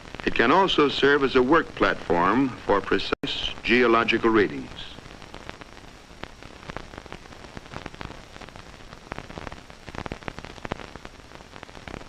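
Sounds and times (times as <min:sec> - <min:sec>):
old film soundtrack crackle: 0:00.0 - 0:12.0.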